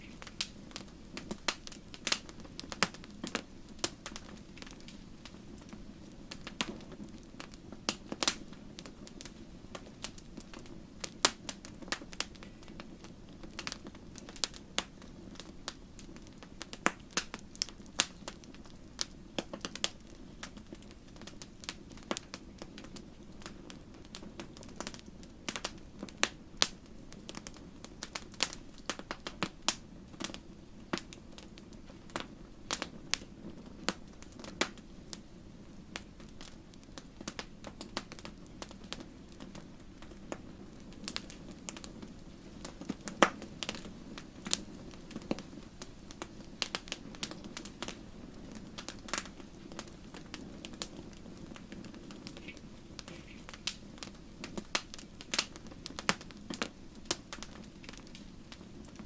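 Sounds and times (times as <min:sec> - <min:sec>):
low hiss of burning: 0:00.0 - 0:59.0
wood fire pops and snaps: 0:00.0 - 0:59.0.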